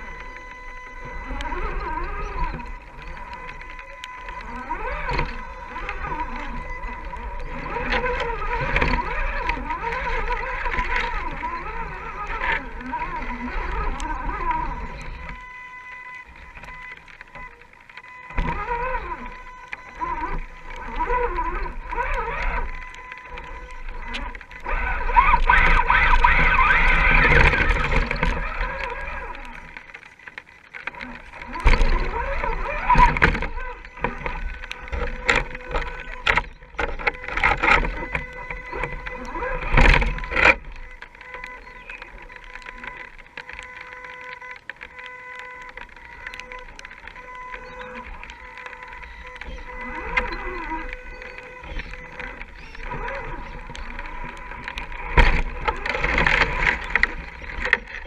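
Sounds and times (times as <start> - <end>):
clicks: 0.0 - 58.0
electric motor whining: 0.0 - 58.0.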